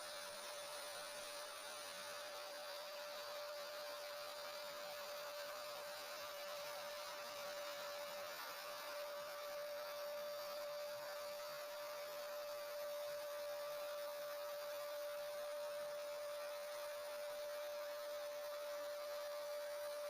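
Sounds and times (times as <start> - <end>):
router spindle high-pitched whine: 0.0 - 20.0
steady hiss: 0.0 - 20.0.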